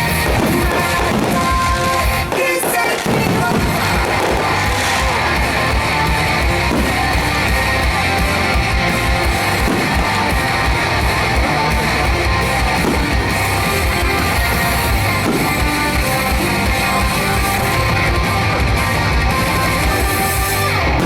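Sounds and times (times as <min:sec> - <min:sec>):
pop music with strummed guitar: 0:00.0 - 0:21.0.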